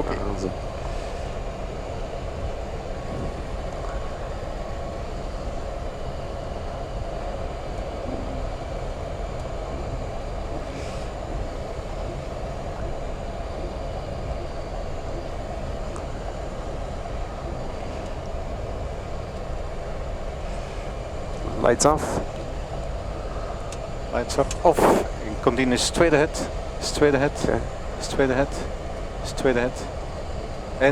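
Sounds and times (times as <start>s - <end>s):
airplane cockpit rumble and hum: 0.0s - 30.9s.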